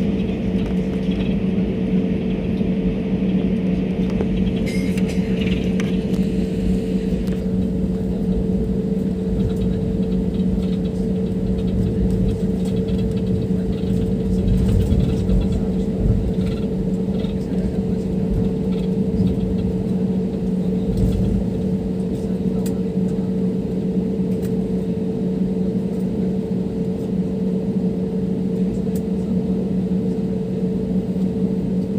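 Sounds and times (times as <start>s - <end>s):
jet engine cabin drone: 0.0s - 31.9s.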